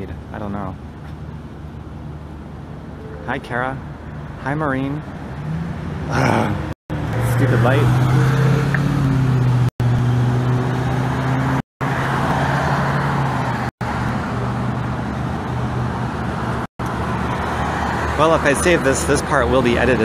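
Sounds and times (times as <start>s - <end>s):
road traffic: 0.0s - 20.0s
vehicle engine humming: 0.0s - 20.0s.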